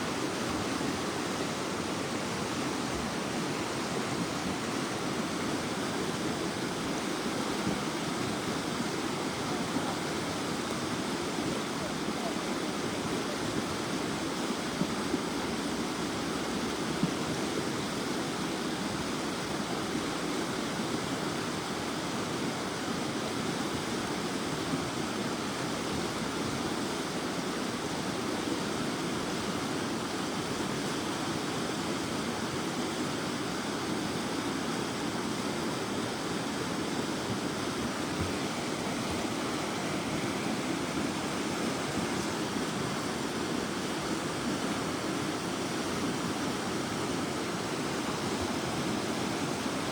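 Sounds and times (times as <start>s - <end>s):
river rushing: 0.0s - 49.9s.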